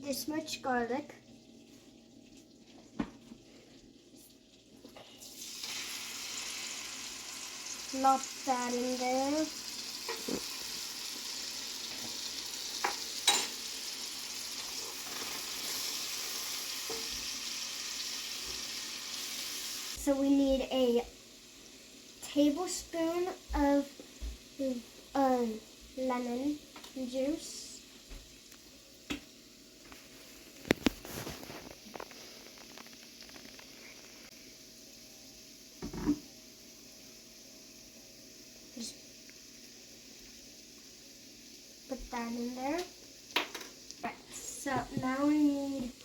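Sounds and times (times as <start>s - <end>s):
garlic sizzling in butter: 0.1s - 46.0s.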